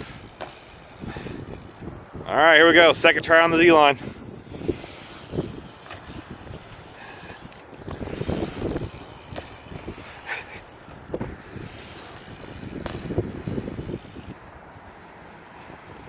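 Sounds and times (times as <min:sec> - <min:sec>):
wheels rattling over ground: 0:00.0 - 0:16.0.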